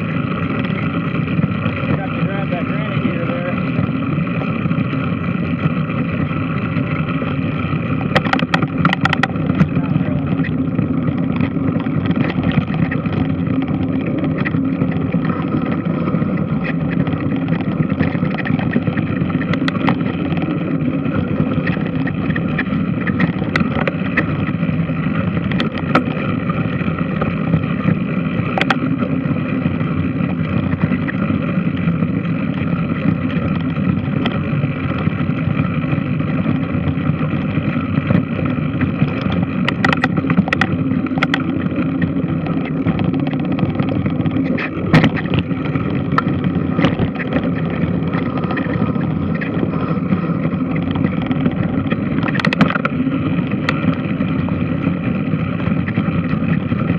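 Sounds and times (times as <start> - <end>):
sharp clicks and rattles: 0.0 - 56.9
washing machine drone: 0.0 - 56.9.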